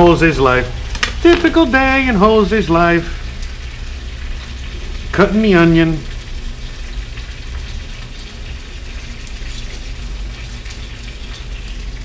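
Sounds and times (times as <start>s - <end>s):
chicken sizzling in a pan: 0.1s - 12.0s.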